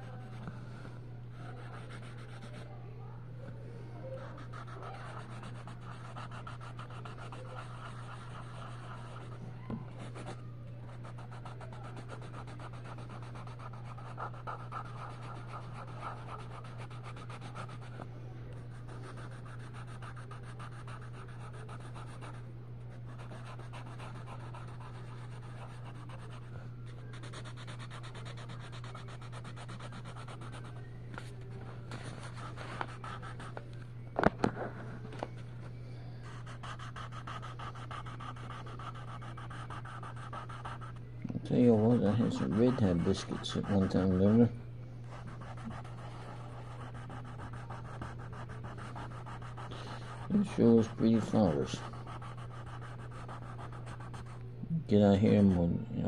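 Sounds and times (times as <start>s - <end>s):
steady low hum: 0.0s - 56.0s
colored pencil scratching on paper: 1.3s - 2.8s, 4.2s - 18.0s, 18.7s - 22.4s, 23.0s - 30.8s, 31.9s - 33.5s, 36.2s - 44.5s, 45.1s - 54.4s, 55.1s - 55.7s.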